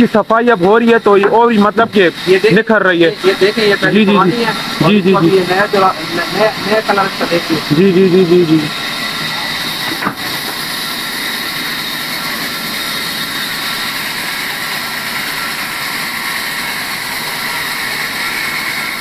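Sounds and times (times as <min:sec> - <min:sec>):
band saw whining through timber: 0:00.0 - 0:19.0.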